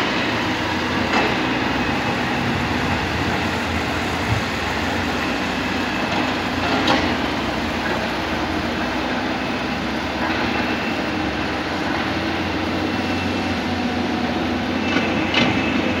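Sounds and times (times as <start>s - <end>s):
dump truck engine under throttle: 0.0s - 16.0s
excavator digging: 0.0s - 16.0s.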